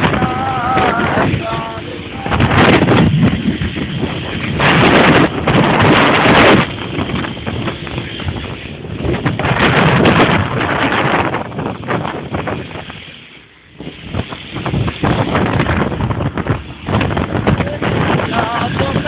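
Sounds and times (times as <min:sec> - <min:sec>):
passing traffic: 0:00.0 - 0:19.0
wind buffeting microphone: 0:00.0 - 0:19.0.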